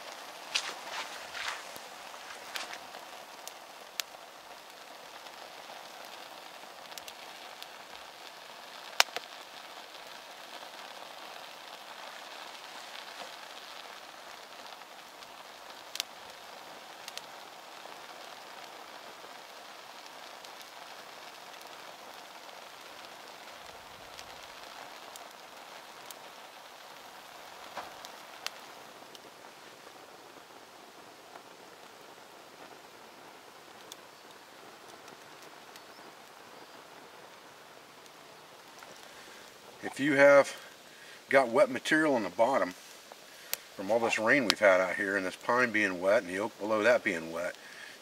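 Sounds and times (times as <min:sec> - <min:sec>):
fire popping: 0:00.0 - 0:48.0
kindling fire crackling: 0:00.0 - 0:48.0.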